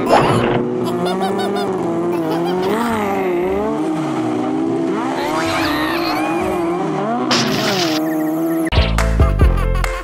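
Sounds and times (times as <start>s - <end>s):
car engines revving: 0.0s - 9.1s.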